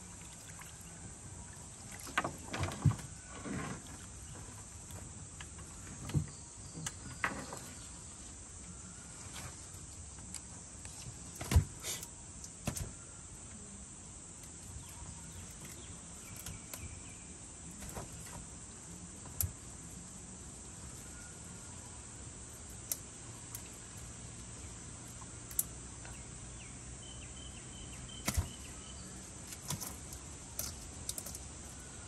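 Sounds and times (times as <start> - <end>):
steady high hiss: 2.9 - 32.0.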